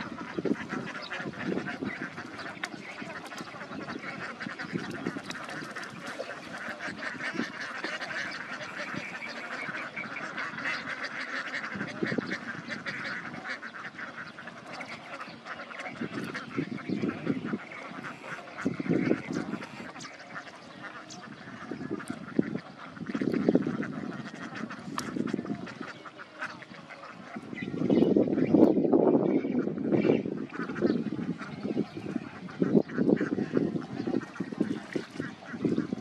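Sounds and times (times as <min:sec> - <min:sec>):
ducks quacking: 0:00.0 - 0:36.0.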